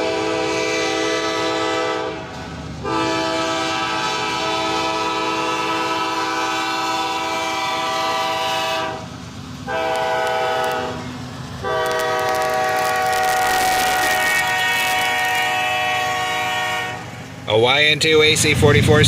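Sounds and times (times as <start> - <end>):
diesel locomotive horn blasts: 0.0 - 17.3
low rumble of passing train: 0.0 - 19.0.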